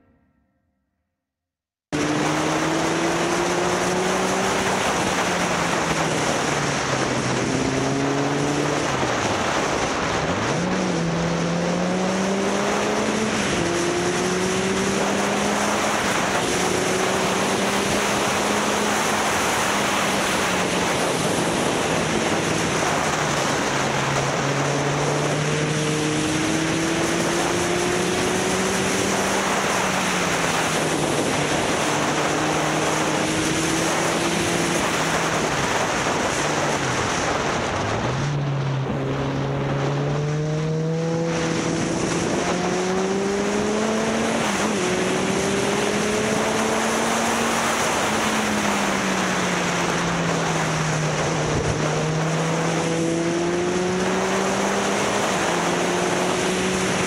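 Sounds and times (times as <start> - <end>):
motorcycle engine revving: 1.9 - 57.0
wind noise on microphone: 2.0 - 57.0.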